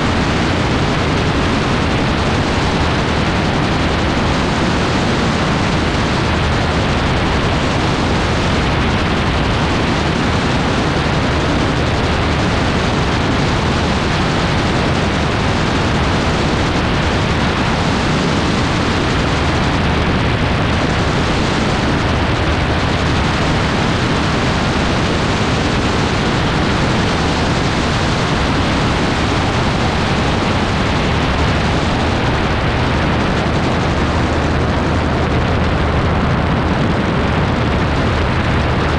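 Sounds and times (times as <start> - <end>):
aircraft engine and propeller drone: 0.0 - 38.9
wind rushing on microphone: 0.0 - 38.9.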